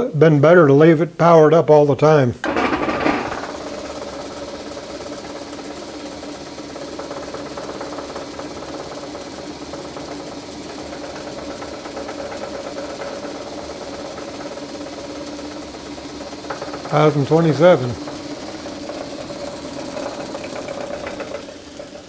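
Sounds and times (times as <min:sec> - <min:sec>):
lathe motor humming: 0:02.4 - 0:22.0.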